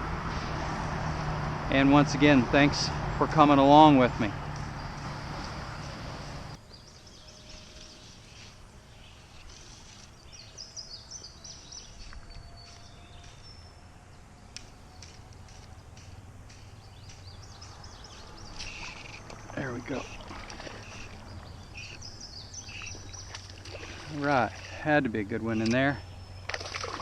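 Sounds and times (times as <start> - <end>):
low steady outdoor background noise: 0.0 - 27.0
birds chirping and singing: 3.6 - 27.0.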